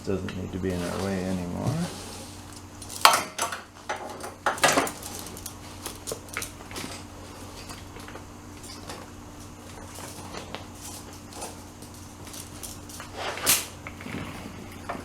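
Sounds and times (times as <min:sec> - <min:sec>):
steady low hum: 0:00.0 - 0:15.0
metal tools clattering: 0:00.1 - 0:13.8.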